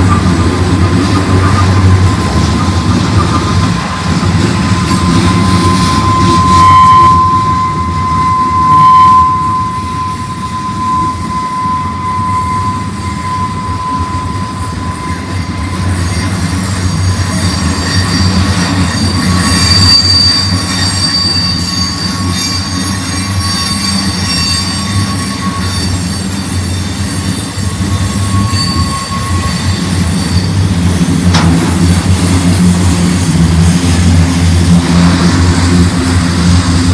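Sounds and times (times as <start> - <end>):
freight train rumbling: 0.0 - 36.9
train wheels squealing on rails: 0.0 - 36.9.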